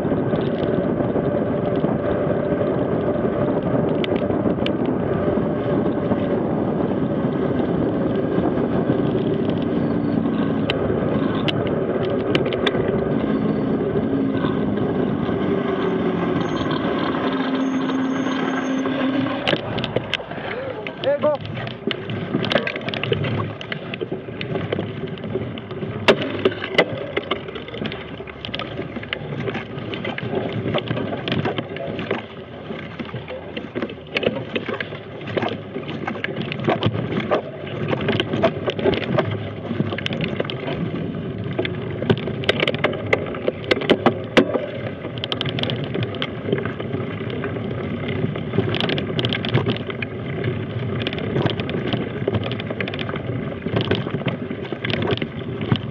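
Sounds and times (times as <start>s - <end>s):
bike knocking and rattling: 0.0s - 55.9s
bike tyres rumbling on dirt: 0.0s - 55.9s.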